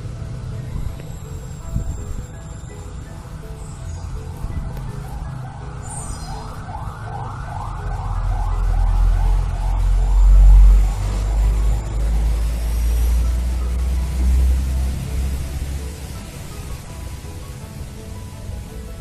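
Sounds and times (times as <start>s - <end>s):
emergency siren wailing: 0.0s - 17.8s
low engine rumble: 0.0s - 19.0s.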